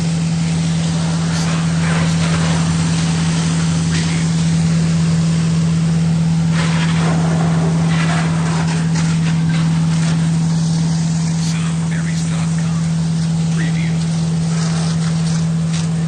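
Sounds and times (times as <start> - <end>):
fire engine motor droning: 0.0 - 16.0.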